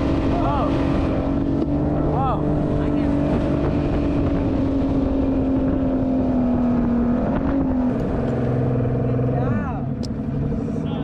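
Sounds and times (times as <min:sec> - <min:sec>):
motorboat engine running: 0:00.0 - 0:11.0
rough rumbling noise: 0:00.0 - 0:11.0.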